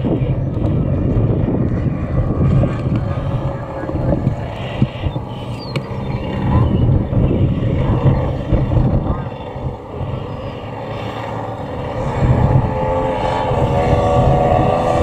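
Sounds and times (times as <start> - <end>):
model airplane engine droning: 0.0 - 15.0
wind buffeting microphone: 0.0 - 15.0.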